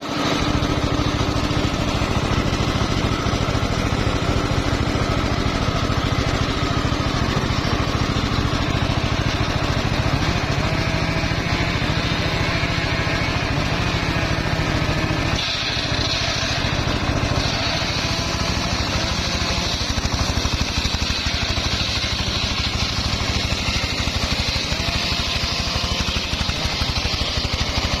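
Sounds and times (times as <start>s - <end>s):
sawmill engine pulsing: 0.0s - 28.0s.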